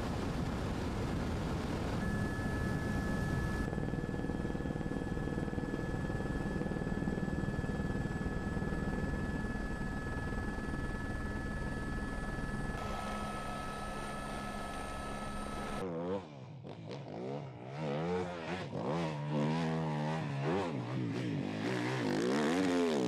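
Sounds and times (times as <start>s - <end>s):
engine drone with high whine: 0.0s - 23.0s.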